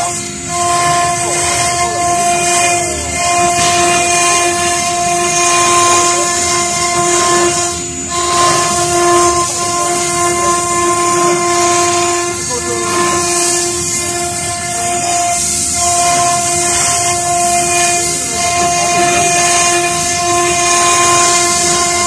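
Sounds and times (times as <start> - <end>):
bit grinding stone: 0.0 - 22.0
router spindle whine: 0.0 - 22.0.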